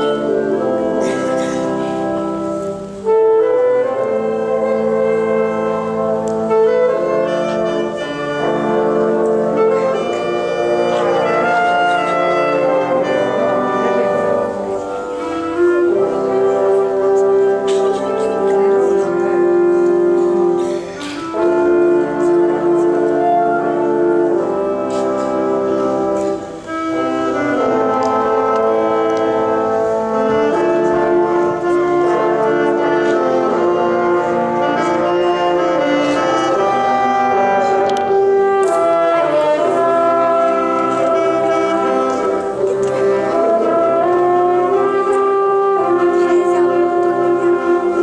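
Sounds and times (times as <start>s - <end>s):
small wind ensemble playing: 0.0s - 48.0s.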